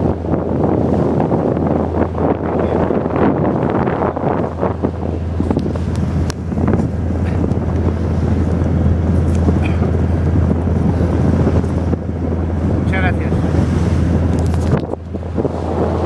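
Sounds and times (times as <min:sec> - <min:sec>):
boat engine drone: 0:00.0 - 0:16.0
wind on microphone: 0:00.0 - 0:16.0.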